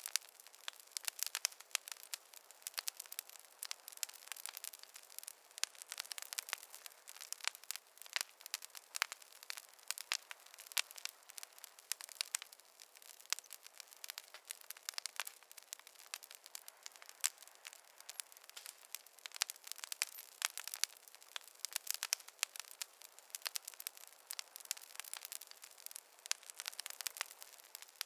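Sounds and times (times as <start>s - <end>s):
campfire crackling and popping: 0.0s - 28.0s
faint hiss: 0.0s - 28.0s.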